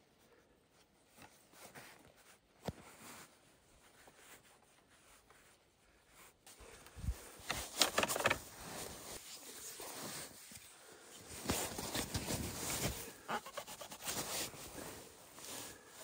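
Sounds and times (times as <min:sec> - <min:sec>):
cord rubbing and rustling: 0:01.0 - 0:16.0.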